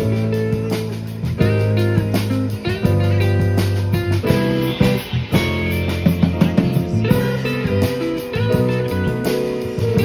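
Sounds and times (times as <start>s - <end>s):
drum and cymbal hits: 0.0s - 10.0s
guitar: 0.0s - 10.0s
live band playing: 0.0s - 10.0s.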